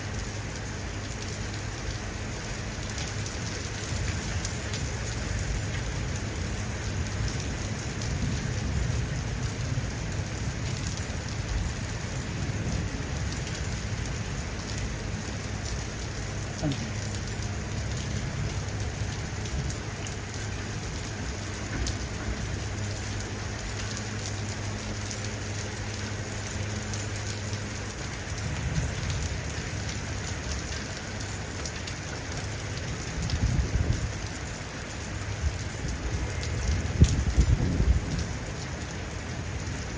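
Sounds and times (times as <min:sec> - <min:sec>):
constant low hum: 0:00.0 - 0:39.9
steady rain falling: 0:00.0 - 0:39.9.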